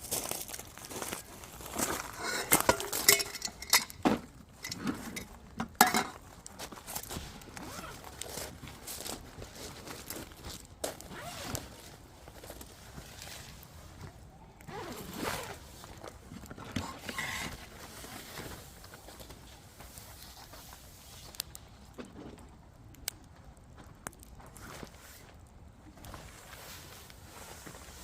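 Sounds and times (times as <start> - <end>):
firewood crackling and popping: 0.0 - 14.7, 15.5 - 28.0.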